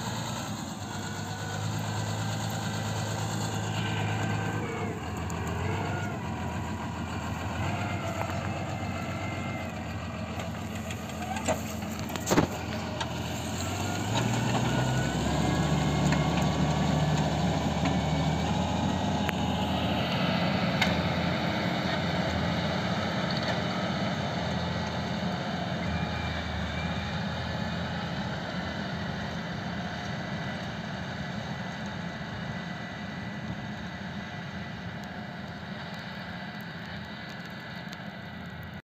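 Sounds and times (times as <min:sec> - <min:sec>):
tractor engine running: 0:00.0 - 0:38.8.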